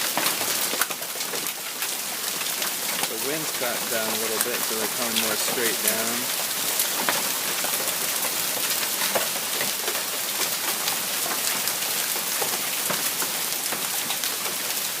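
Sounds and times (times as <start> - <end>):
hail pattering: 0.0 - 15.0.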